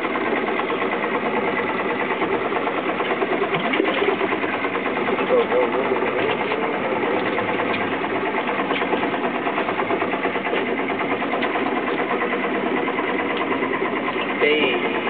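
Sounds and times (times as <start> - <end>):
boat motor idling: 0.0 - 15.0.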